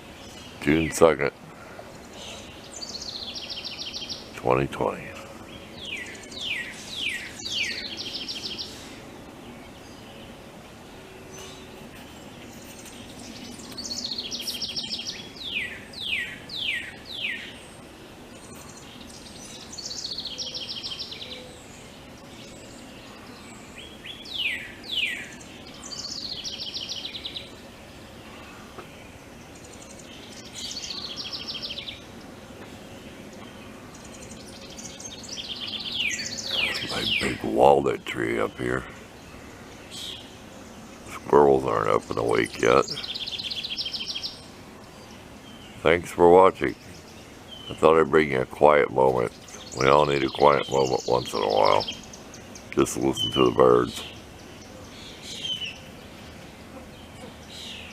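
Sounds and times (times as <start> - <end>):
faint steady background noise: 0.0 - 57.9
songbirds singing: 0.0 - 57.9.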